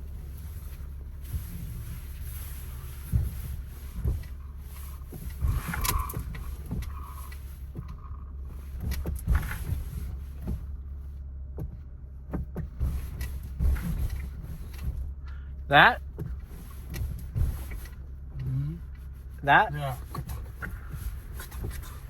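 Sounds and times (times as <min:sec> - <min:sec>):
car cabin road rumble: 0:00.0 - 0:22.0
sharp knocks and clunks: 0:03.0 - 0:10.8, 0:11.5 - 0:22.0.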